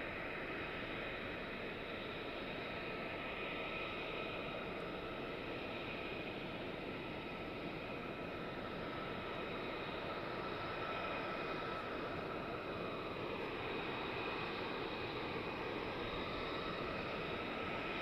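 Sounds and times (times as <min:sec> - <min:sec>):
jet engine running: 0:00.0 - 0:18.0.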